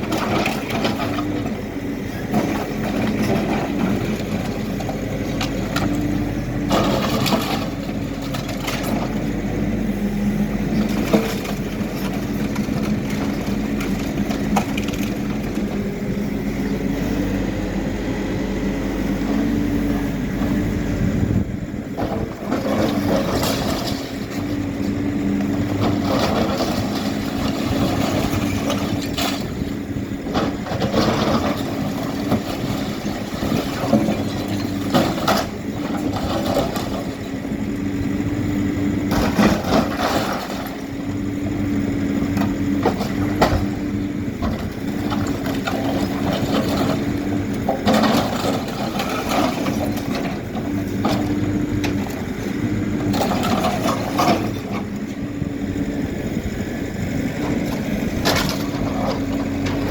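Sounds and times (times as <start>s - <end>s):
backhoe diesel engine running: 0.0s - 59.9s.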